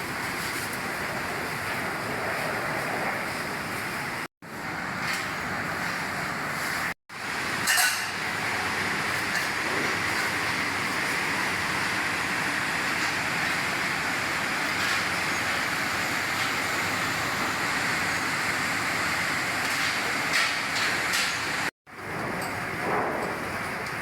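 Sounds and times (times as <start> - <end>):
factory machinery whirring: 0.0 - 24.0.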